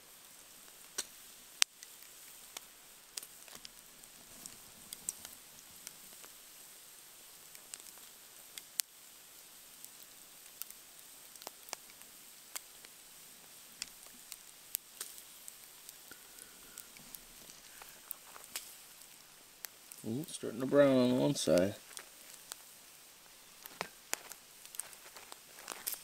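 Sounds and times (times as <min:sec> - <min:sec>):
bacon sizzling: 0:00.0 - 0:26.0
fat popping and crackling: 0:00.3 - 0:26.0.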